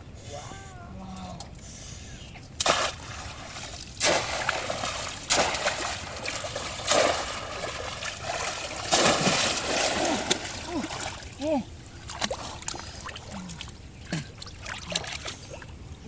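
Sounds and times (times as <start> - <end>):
water splashing: 2.6 - 15.8
water trickling: 2.7 - 16.0.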